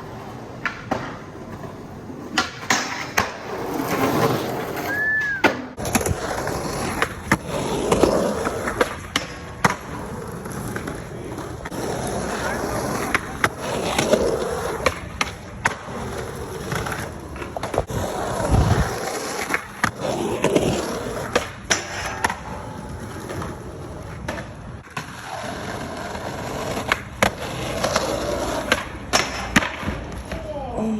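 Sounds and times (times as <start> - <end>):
skateboard clacking on ground: 0.0 - 30.8
skateboard wheels rumbling: 0.0 - 30.8.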